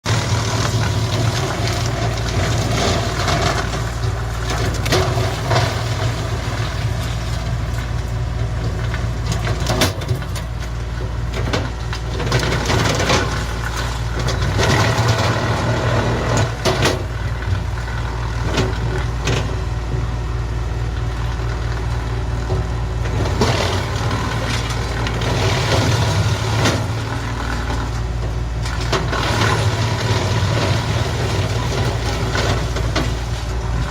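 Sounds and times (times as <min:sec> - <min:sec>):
branches cracking in chipper: 0:00.0 - 0:19.8, 0:21.0 - 0:33.9
wood chipper engine hum: 0:00.0 - 0:33.9.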